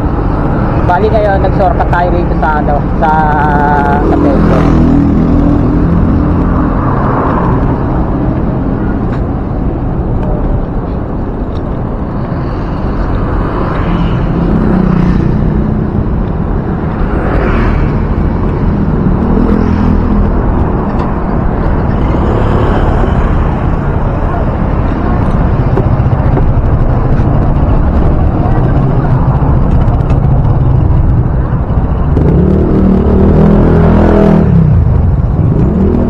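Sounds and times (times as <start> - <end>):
road traffic rumble: 0.0 - 36.0
wind noise on microphone: 2.0 - 36.0
motor scooters passing: 3.2 - 36.0.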